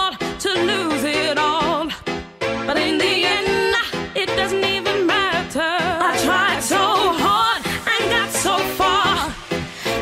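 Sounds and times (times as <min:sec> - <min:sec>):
pop song with sung vocal: 0:00.0 - 0:10.0.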